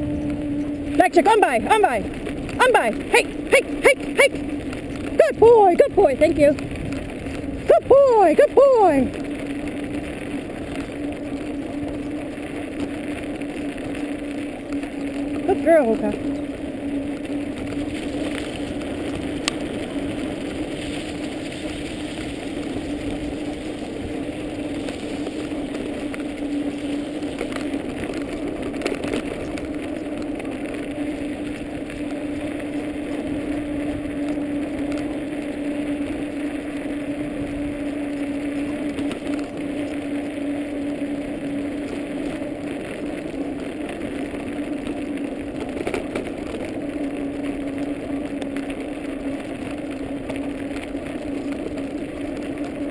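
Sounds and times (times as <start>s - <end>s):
scooter tyres rolling on snow: 0.0s - 52.9s.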